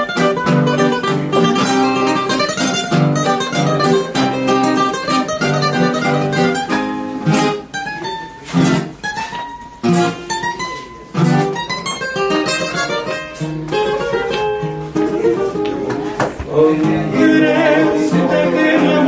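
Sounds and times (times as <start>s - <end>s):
acoustic guitars playing bolero: 0.0s - 19.0s.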